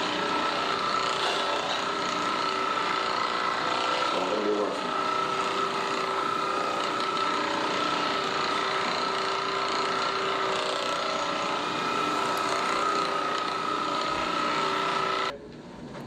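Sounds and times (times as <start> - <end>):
small electric motor whining: 0.0 - 15.3.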